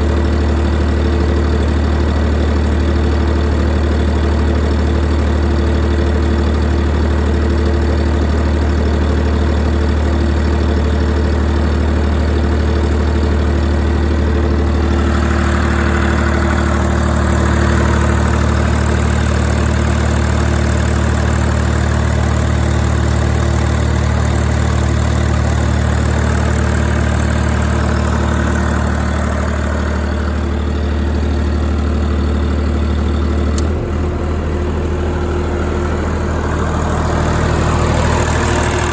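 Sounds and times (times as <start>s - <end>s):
diesel generator running: 0.0s - 38.9s.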